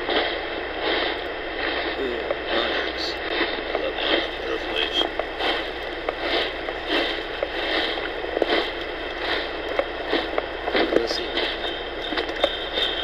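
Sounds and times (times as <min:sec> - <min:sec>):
footsteps on a trail: 0:00.0 - 0:13.0
steady hiss: 0:00.0 - 0:13.0.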